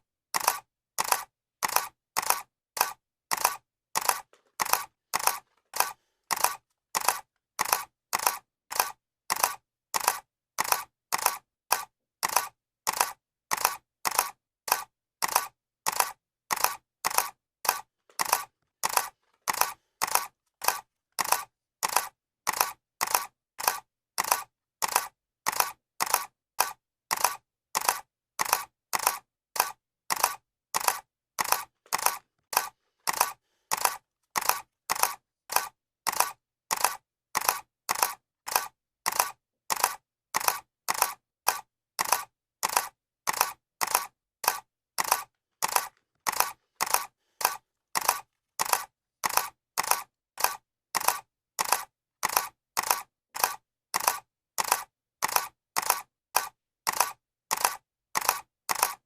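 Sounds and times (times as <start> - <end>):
camera shutter clicking: 0.4 - 59.0.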